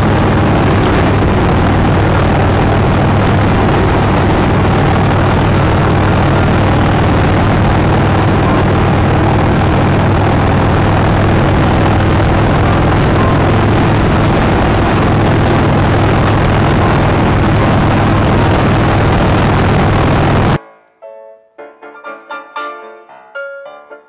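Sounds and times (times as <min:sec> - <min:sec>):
motorcycle engine drone: 0:00.0 - 0:20.6
wind rush on microphone: 0:00.0 - 0:20.6.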